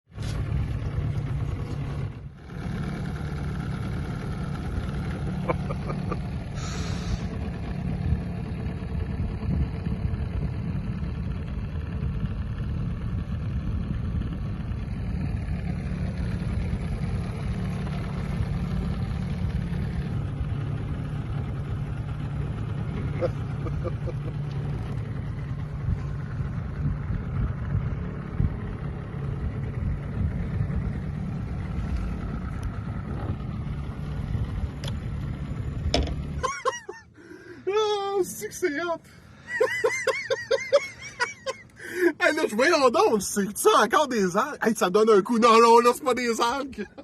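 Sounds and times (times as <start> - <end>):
boat motor droning: 0.1 - 47.0.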